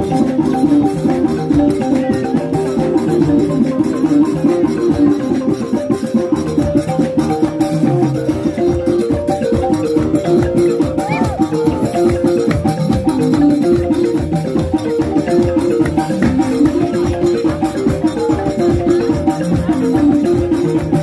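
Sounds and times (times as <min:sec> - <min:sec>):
drums: 0:00.0 - 0:21.0
wooden xylophones playing melody: 0:00.0 - 0:21.0.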